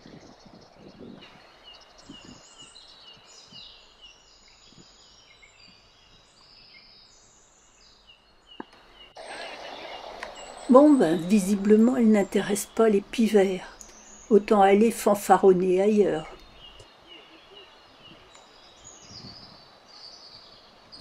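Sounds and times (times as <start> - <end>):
faint birdsong: 0.0 - 21.0.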